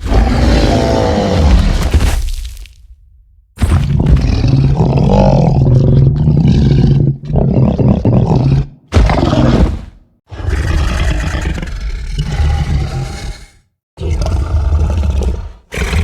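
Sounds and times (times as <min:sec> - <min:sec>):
animal roars: 0:00.0 - 0:01.9, 0:03.8 - 0:16.0.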